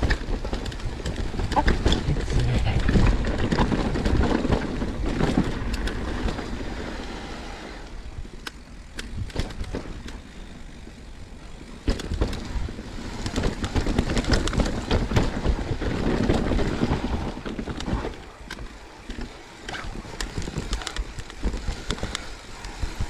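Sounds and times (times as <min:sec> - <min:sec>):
bike rattling and knocking: 0:00.0 - 0:07.0, 0:08.2 - 0:23.0
bike tyres on rock and gravel: 0:00.0 - 0:23.0.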